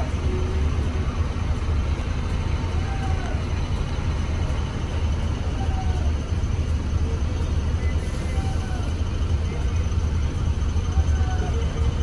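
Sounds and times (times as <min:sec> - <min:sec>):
diesel engine rumble: 0:00.0 - 0:12.0
road noise: 0:00.0 - 0:12.0.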